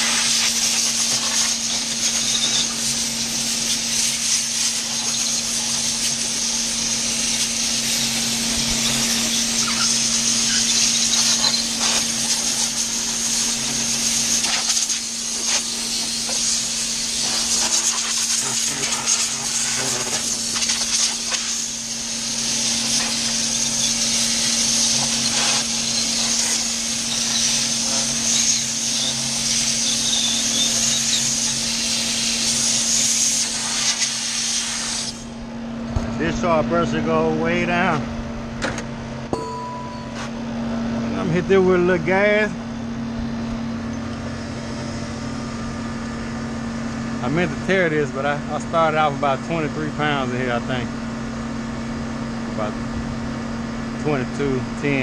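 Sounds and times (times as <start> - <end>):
compressor hum: 0.0 - 55.0.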